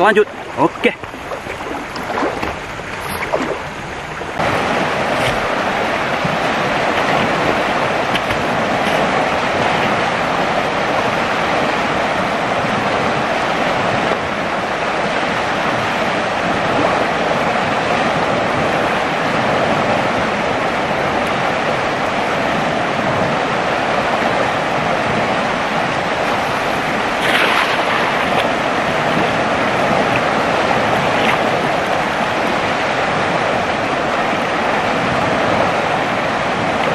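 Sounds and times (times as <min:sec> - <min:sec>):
fast-flowing river rushing: 0:00.0 - 0:36.9.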